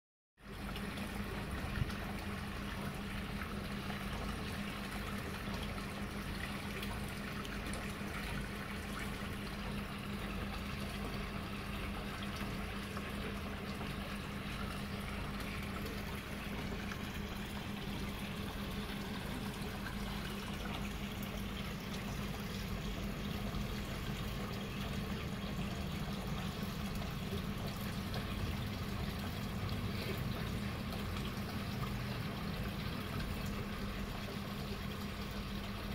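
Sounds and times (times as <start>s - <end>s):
water running and trickling: 0.4s - 35.9s.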